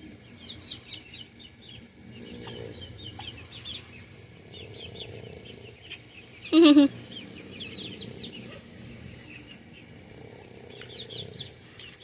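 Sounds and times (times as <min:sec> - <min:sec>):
turkeys chirping: 0:00.0 - 0:12.0.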